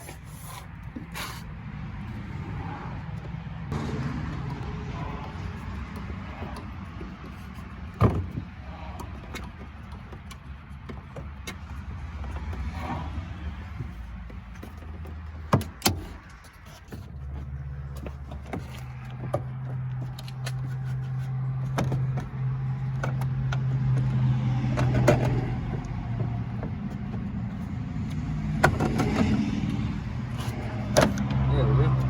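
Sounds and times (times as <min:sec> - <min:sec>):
tail light prying clicks and knocks: 0:02.1 - 0:32.0.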